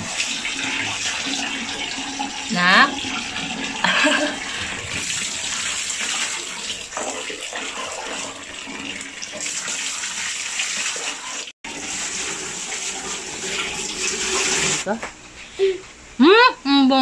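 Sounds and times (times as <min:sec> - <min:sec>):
water pouring and splashing: 0:00.0 - 0:14.9.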